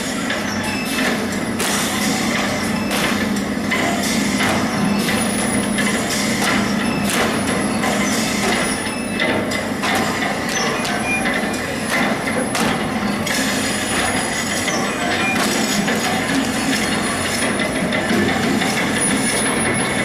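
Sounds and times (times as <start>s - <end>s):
steady mechanical din: 0.0s - 20.0s
clattering knocks and clicks: 1.0s - 20.0s.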